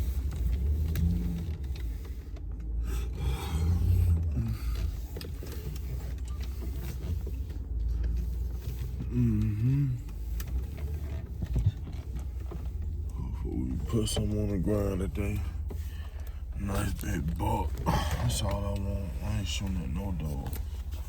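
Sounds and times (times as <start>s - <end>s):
handling noise clicks and rubbing: 0.0s - 3.2s, 4.0s - 9.2s, 10.0s - 21.0s
pickup truck cab rumble: 0.0s - 21.0s.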